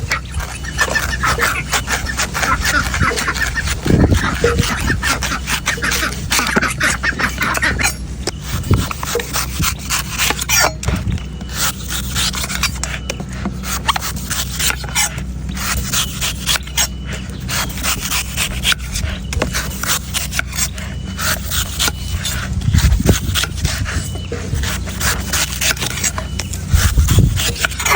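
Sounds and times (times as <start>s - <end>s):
knife scraping coconut: 0.0s - 27.9s
steady low hum: 0.0s - 27.9s.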